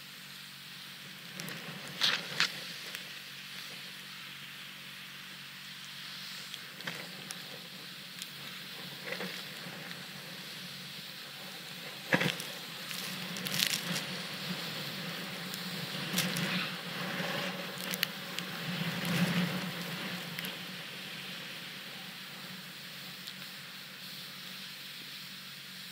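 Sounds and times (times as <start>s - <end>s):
snowboard hissing through snow: 0.0s - 25.9s
board crunching and scraping snow: 1.0s - 4.2s, 5.9s - 25.2s.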